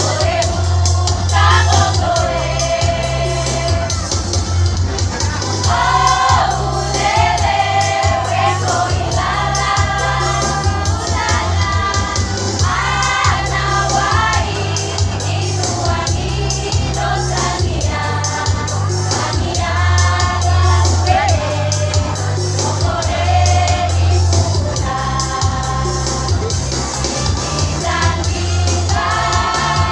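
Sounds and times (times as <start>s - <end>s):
choir singing: 0.0s - 4.1s, 5.6s - 26.3s, 27.6s - 29.9s
instrumental accompaniment with beat: 0.0s - 29.9s.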